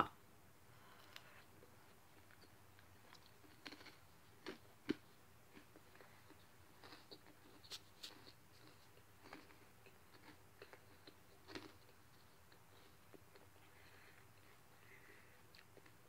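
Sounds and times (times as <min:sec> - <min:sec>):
faint chewing with mouth clicks: 0:00.8 - 0:16.0.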